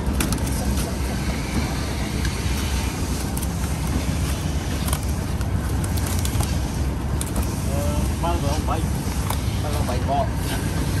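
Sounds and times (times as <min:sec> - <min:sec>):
market background rumble: 0:00.0 - 0:11.0.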